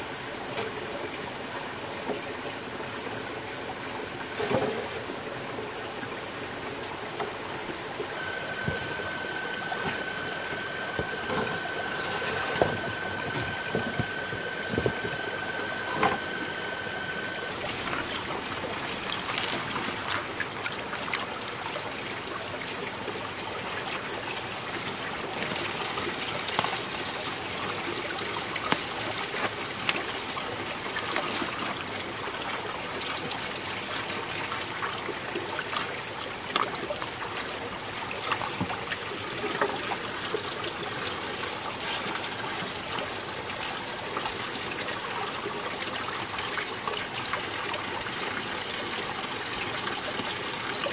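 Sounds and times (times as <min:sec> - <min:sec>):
water trickling and splashing: 0:00.0 - 0:50.9.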